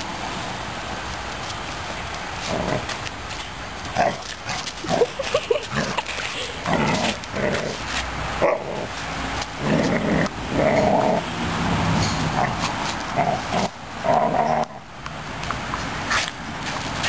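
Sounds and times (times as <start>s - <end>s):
broom bristles scraping concrete: 1.0s - 14.6s, 16.1s - 17.0s.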